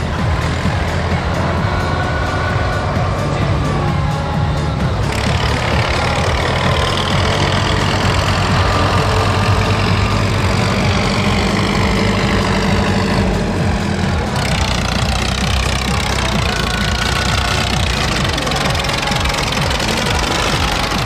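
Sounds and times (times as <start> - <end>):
tractor engines droning: 0.0 - 21.0.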